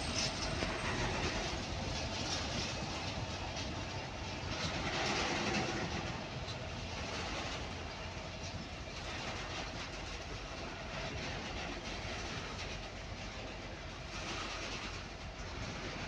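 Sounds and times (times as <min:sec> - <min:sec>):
wheels clattering over track: 0:00.0 - 0:12.9
train wheels rolling on rails: 0:00.0 - 0:16.0.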